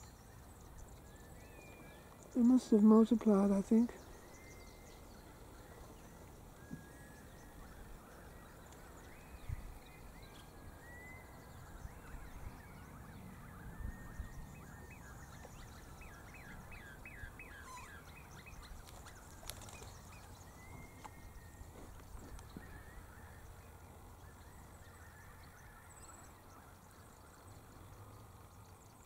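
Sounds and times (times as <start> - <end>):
faint birdsong: 0.0 - 29.0.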